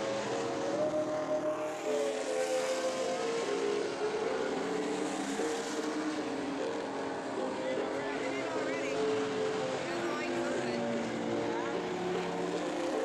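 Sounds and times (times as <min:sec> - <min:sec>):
race truck engines droning: 0:00.0 - 0:13.0.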